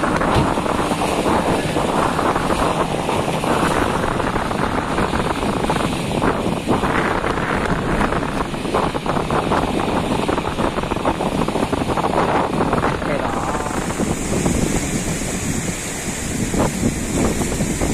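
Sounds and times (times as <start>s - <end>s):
boat motor running: 0.0s - 17.9s
sea waves: 0.0s - 17.9s
wind buffeting microphone: 0.0s - 17.9s.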